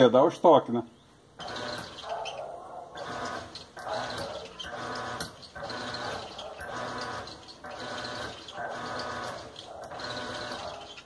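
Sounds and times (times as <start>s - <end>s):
washing machine motor humming: 1.4s - 11.0s.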